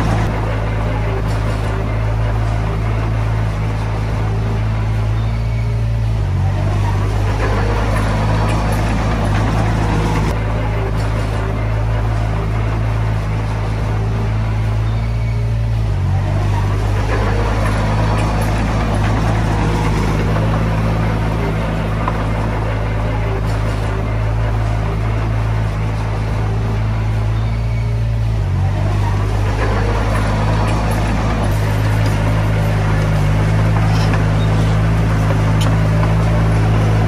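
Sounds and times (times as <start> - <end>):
bulldozer diesel engine running: 0.0 - 37.0
mechanical noise: 0.0 - 37.0.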